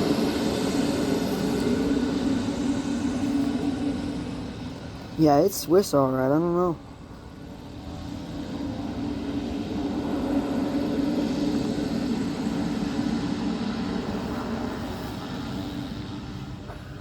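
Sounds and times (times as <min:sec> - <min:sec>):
turboprop plane droning past: 0:00.0 - 0:17.0.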